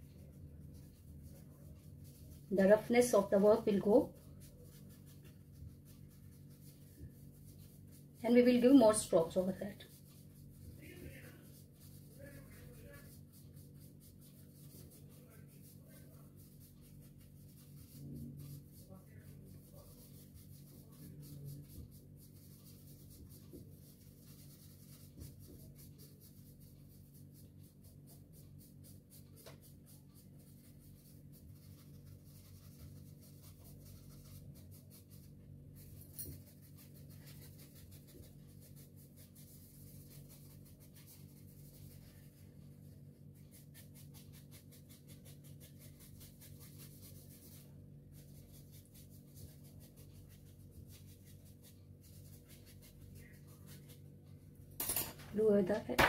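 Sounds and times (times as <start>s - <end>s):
coloured pencil scratching paper: 0.0s - 54.6s
low steady hum: 0.0s - 56.0s.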